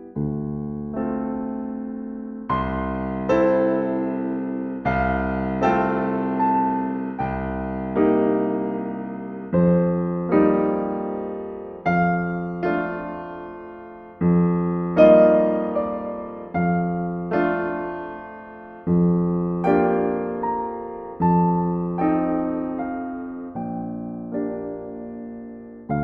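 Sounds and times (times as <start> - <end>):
gentle solo piano chords: 0.0 - 26.0.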